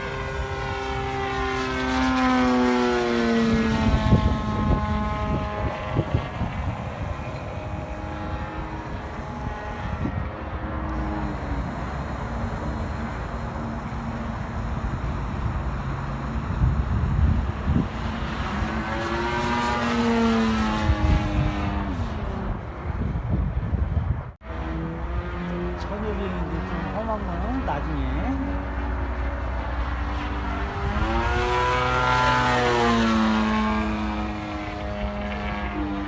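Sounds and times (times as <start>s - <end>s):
model airplane engine running: 0.0s - 23.4s, 24.5s - 36.0s.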